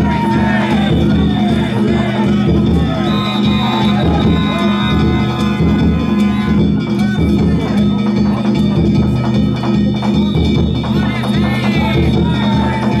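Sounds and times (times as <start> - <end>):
crowd voices: 0.0 - 13.0
hand gongs ringing: 0.0 - 13.0
taiko drum: 0.0 - 13.0.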